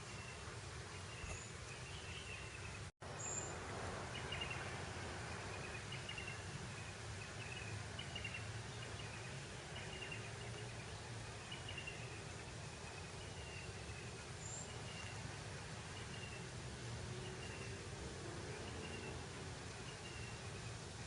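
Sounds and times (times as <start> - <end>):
breeze rustling grass: 0.0 - 21.0.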